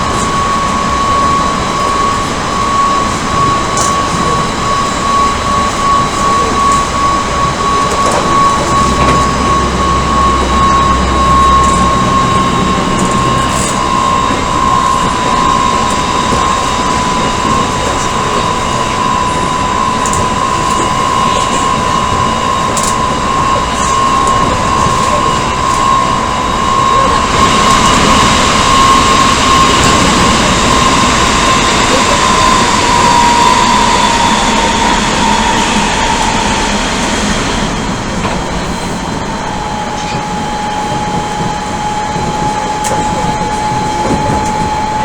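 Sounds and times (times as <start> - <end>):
electric train motor whine: 0.0 - 45.0
wheel and rail rumble: 0.0 - 45.0.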